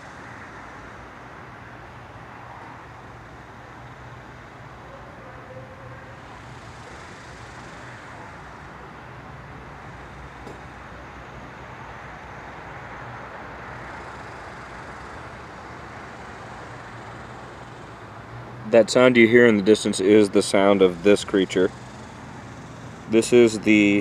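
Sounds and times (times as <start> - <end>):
cicadas buzzing: 0.0 - 24.0
steady low hum: 0.0 - 24.0.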